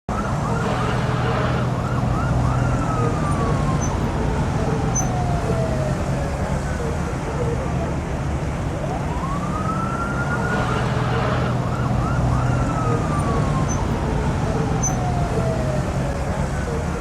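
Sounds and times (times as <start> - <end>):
low rumble of engines: 0.1 - 17.0
siren wailing and yelping: 1.8 - 7.9, 8.9 - 17.0.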